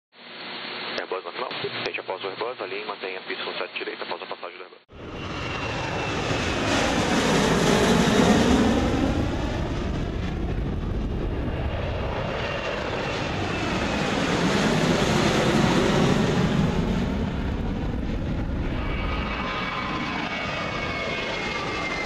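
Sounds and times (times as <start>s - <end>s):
jet engine roar overhead: 3.3s - 22.0s.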